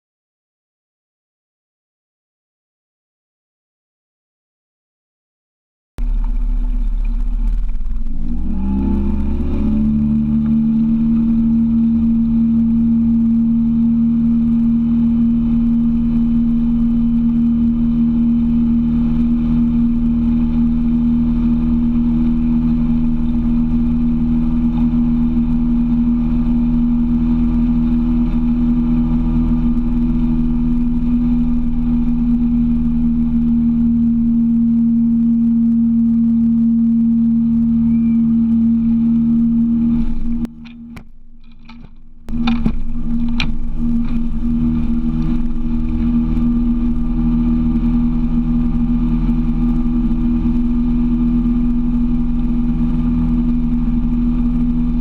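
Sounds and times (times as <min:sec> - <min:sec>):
outboard motor running: 0:06.0 - 0:55.0.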